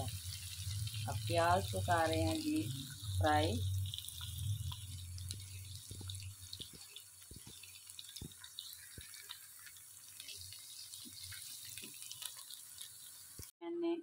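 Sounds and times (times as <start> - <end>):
onions sizzling in oil: 0.0 - 13.5.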